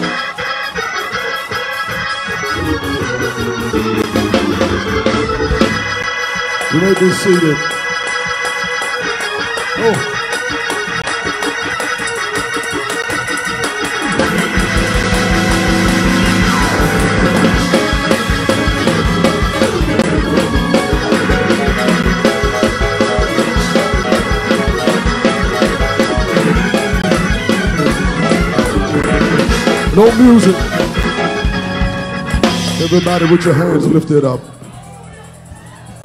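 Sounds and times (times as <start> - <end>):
church organ chords: 0.0 - 34.8
fast steady beat: 1.2 - 36.0.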